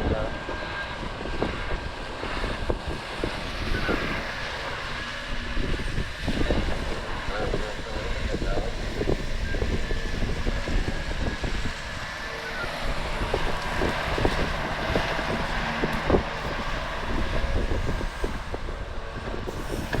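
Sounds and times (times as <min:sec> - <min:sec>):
heavy diesel machinery running: 0:00.0 - 0:20.0
wind buffeting microphone: 0:00.0 - 0:20.0.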